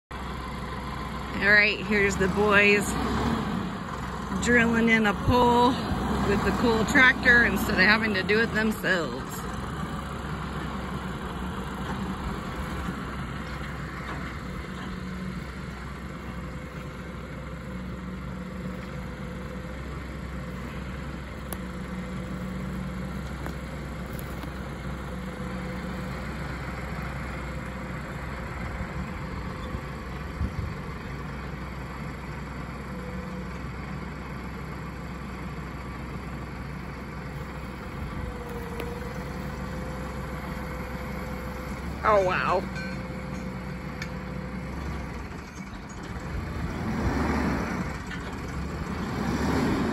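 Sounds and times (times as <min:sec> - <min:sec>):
tractor diesel engine running: 0:00.1 - 0:49.9.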